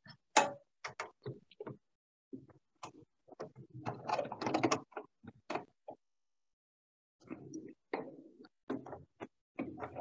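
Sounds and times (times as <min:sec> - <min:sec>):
small clicks and clacks of parts: 0:00.0 - 0:06.0, 0:07.2 - 0:10.0.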